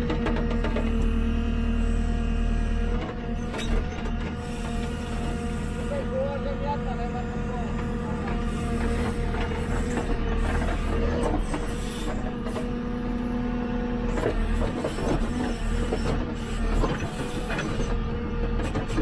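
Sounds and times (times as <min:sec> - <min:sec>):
diesel engine under load: 0:00.0 - 0:19.0
hydraulic whine: 0:00.0 - 0:19.0.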